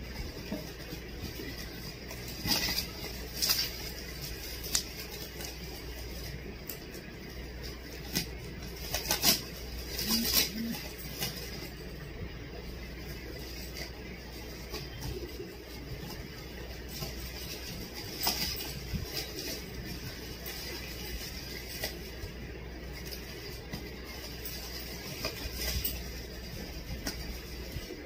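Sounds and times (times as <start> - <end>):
plastic wrapping crinkling: 0.0 - 28.0
steady low hum: 0.0 - 28.0.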